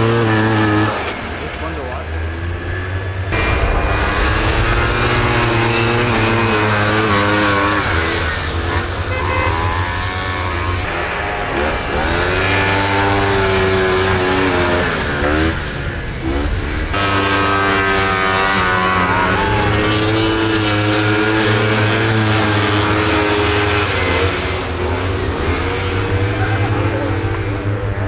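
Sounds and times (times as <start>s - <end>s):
snowmobile engines racing past: 0.0s - 28.0s.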